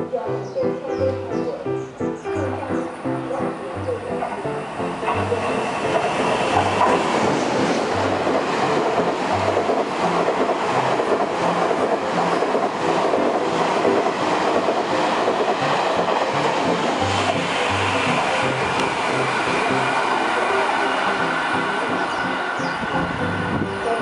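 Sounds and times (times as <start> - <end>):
train wheels rushing over rails: 4.2 - 24.0.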